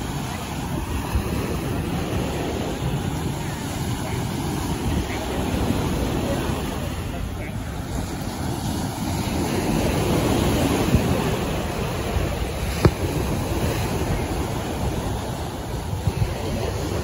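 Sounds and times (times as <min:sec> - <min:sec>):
small waves breaking: 0:00.0 - 0:17.0
wind on microphone: 0:00.0 - 0:17.0.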